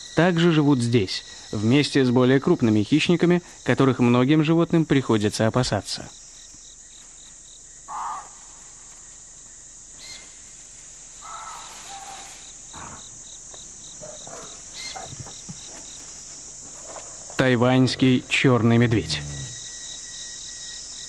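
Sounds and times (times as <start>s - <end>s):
cricket-like chirp: 0.0s - 21.0s
high-pitched insect hiss: 0.0s - 21.0s.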